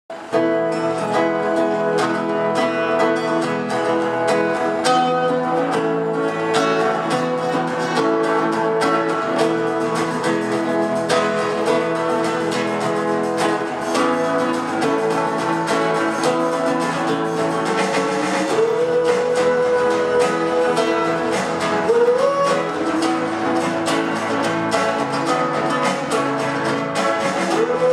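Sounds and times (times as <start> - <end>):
strummed guitar music: 0.1 - 27.9.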